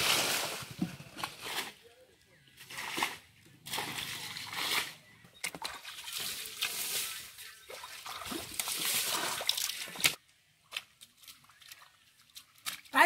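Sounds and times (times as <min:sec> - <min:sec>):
water splashing and trickling: 0:02.5 - 0:13.0.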